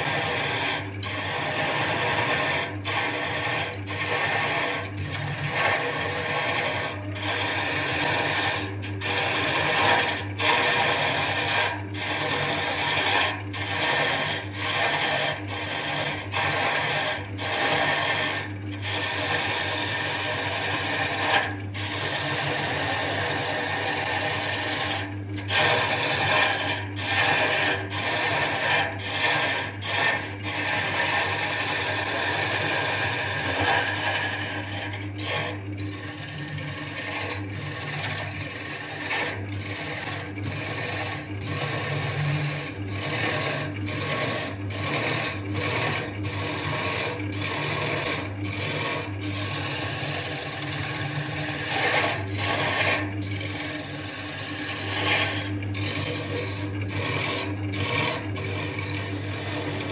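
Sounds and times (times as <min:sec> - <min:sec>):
lathe motor hum: 0:00.0 - 0:59.9
tool scraping spinning wood: 0:00.0 - 0:59.9.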